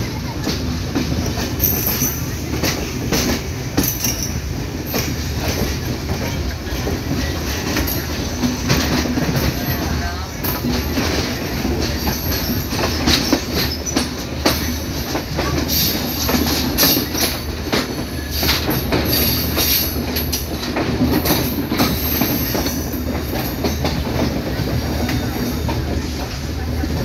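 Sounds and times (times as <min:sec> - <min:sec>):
train rumble: 0:00.0 - 0:27.0
wheels clattering over rail joints: 0:00.4 - 0:27.0.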